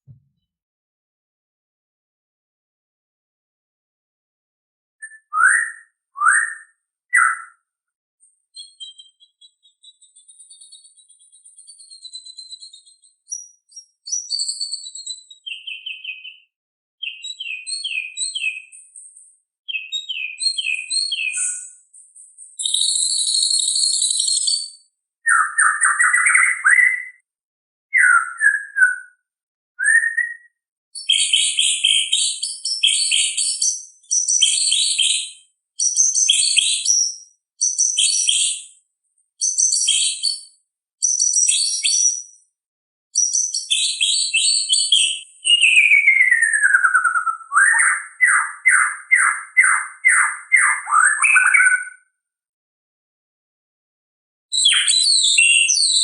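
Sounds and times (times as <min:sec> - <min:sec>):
bird singing whistles and chirps: 0:05.0 - 0:07.6, 0:08.5 - 0:27.3, 0:27.9 - 0:29.2, 0:29.8 - 0:38.8, 0:39.4 - 0:42.4, 0:43.2 - 0:52.0, 0:54.5 - 0:56.0.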